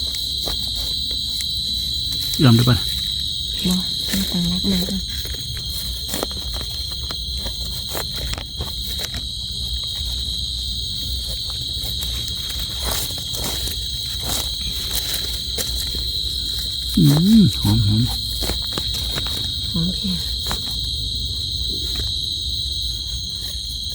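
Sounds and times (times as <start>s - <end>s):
insects trilling: 0.0s - 23.9s.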